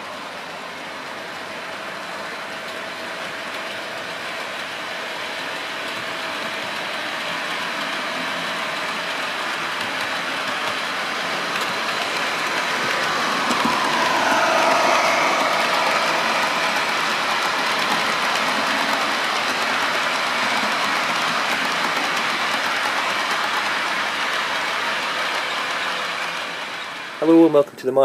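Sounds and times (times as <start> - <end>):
model train running on track: 0.0 - 27.8.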